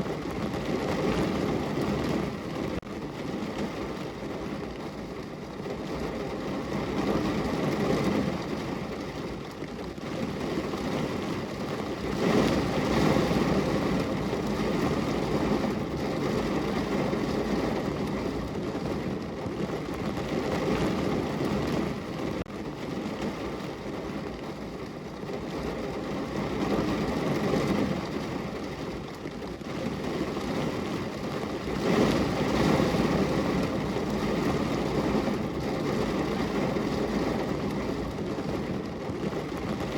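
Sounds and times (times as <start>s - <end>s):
rain on a car window: 0.0s - 39.9s.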